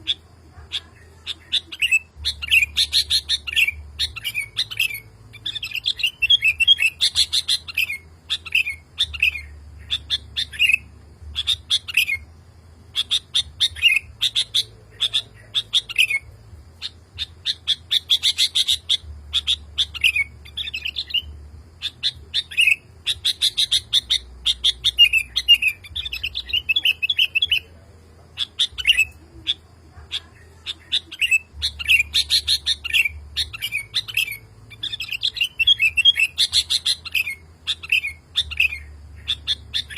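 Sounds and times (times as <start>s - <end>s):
bulbul singing chirping phrases: 0.0s - 39.9s.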